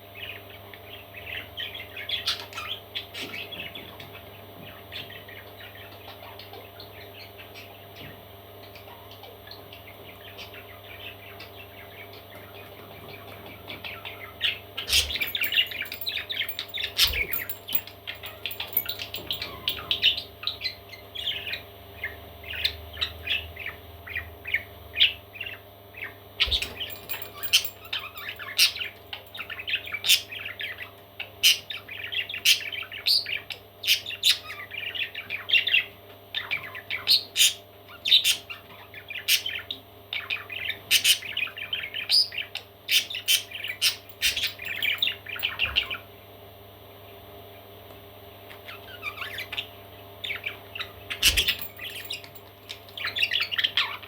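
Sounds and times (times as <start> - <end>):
parrot chicks chirping: 0.2 - 46.2, 48.5 - 54.0.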